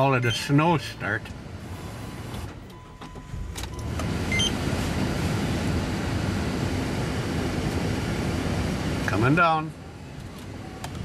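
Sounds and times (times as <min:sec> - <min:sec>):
vehicle engine starting and running: 0:00.0 - 0:11.0.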